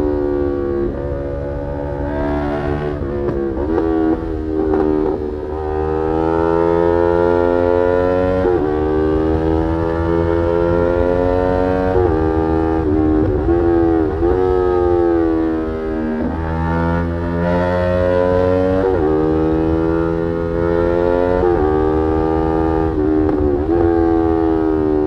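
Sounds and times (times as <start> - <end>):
motorcycle engine on the road: 0.0 - 25.0.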